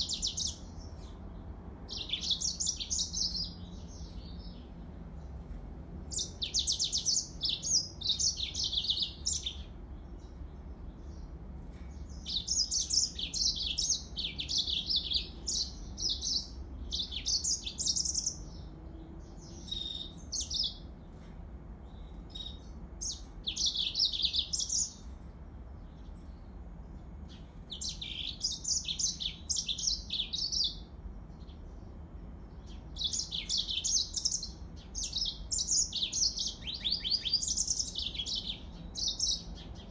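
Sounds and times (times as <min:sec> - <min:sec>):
canary singing: 0:00.0 - 0:01.2, 0:01.8 - 0:04.8, 0:06.0 - 0:10.4, 0:12.0 - 0:21.0, 0:21.9 - 0:25.2, 0:27.2 - 0:31.0, 0:32.5 - 0:39.9.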